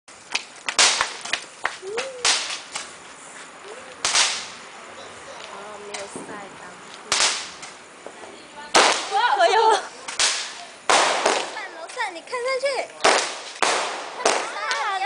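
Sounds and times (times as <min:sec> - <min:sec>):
firecrackers banging: 0:00.1 - 0:15.0.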